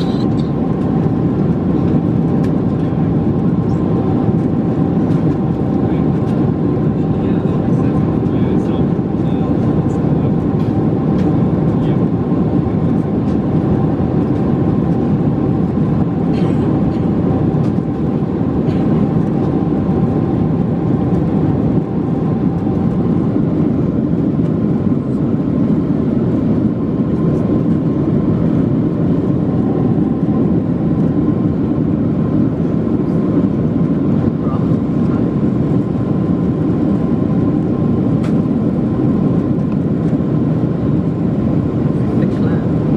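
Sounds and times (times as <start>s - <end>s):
airplane engines deep rushing: 0.0s - 42.9s.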